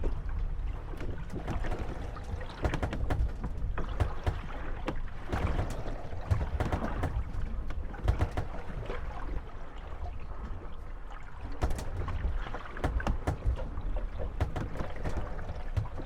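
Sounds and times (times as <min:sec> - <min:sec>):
boats knocking and creaking: 0:00.0 - 0:16.0
water slapping hulls: 0:00.0 - 0:16.0.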